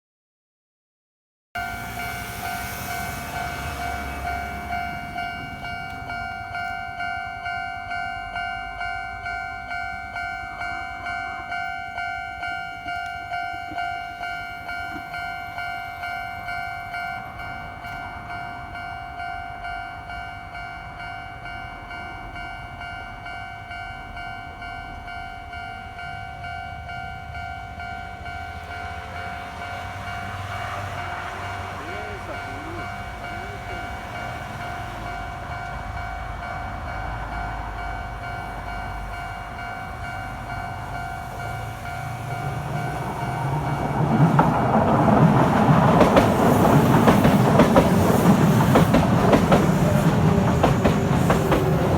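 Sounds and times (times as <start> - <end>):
level-crossing warning bell: 1.6 - 51.9.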